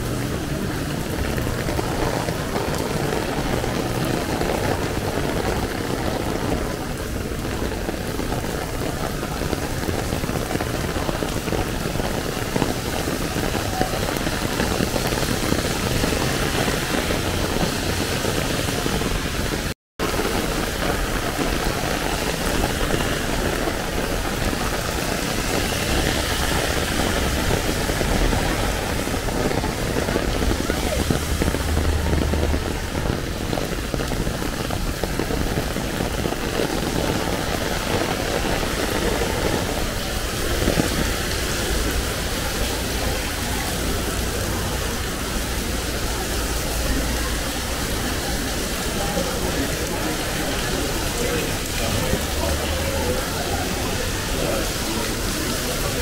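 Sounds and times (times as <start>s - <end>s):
heavy rain on umbrella: 0.0s - 56.0s
street traffic rumble: 0.0s - 56.0s.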